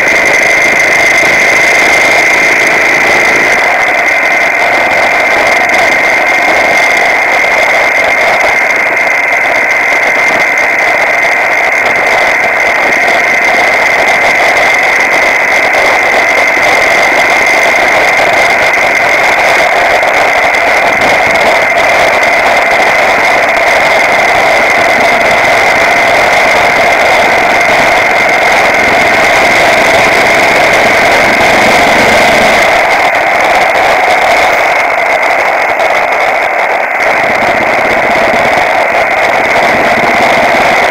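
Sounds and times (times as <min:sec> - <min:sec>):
high-pitched tone: 0:00.0 - 0:40.9
motorcycle engine: 0:00.0 - 0:40.9.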